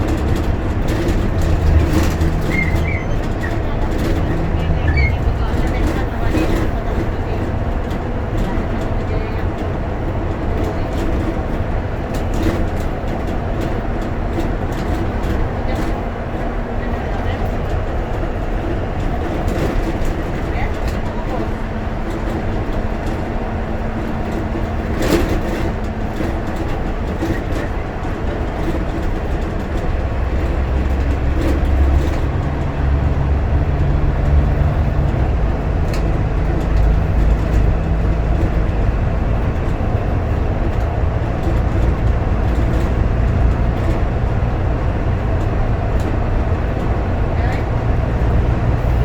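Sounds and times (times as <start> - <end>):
bus engine drone: 0.0 - 49.0
road rumble: 0.0 - 49.0.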